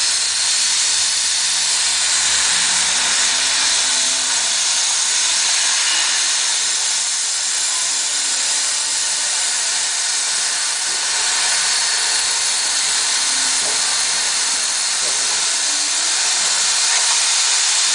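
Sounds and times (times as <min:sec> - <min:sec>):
cutting torch hissing: 0:00.0 - 0:17.9.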